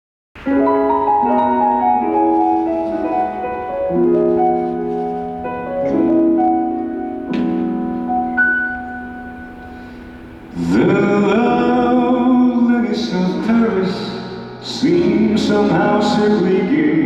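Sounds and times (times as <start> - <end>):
piano chords: 0.4 - 17.0.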